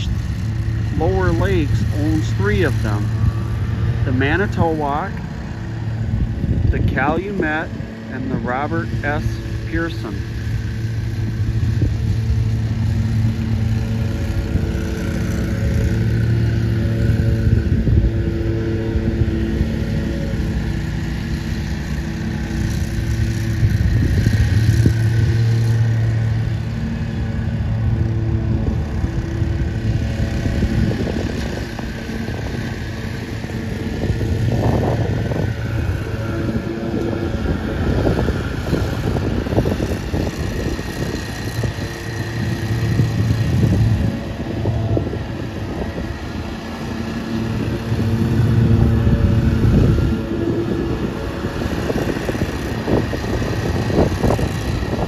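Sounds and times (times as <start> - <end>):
low engine drone: 0.0 - 55.0.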